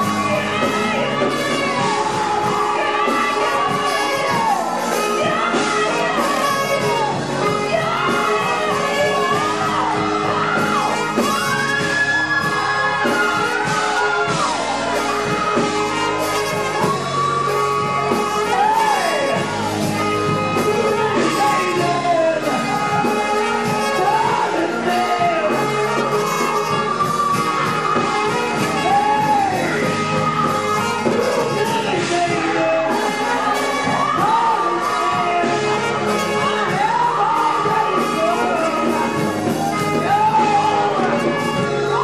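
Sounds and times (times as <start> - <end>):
choir singing: 0.0 - 42.0
instrumental backing with beat: 0.0 - 42.0
lead singer singing: 0.0 - 42.0.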